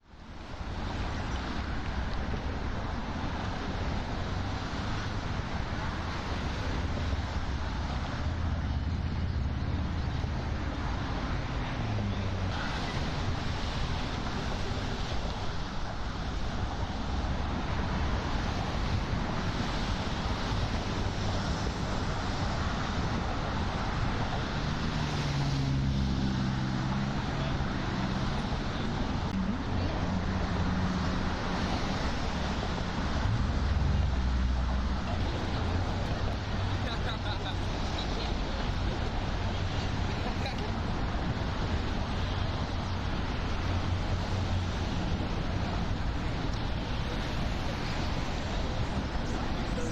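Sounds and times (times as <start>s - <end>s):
passing cars: 0.0s - 49.9s
engine low hum: 3.2s - 19.0s, 19.6s - 49.9s.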